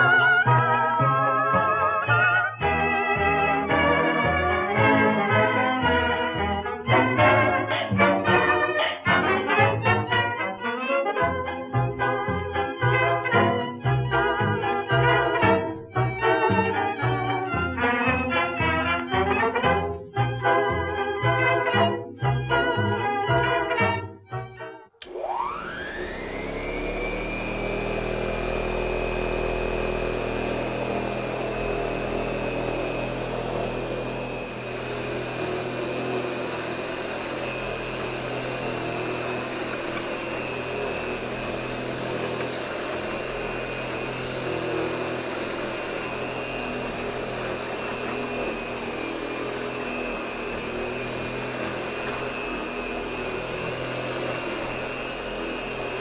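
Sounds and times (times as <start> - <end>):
vacuum cleaner motor whining: 0.0 - 56.0.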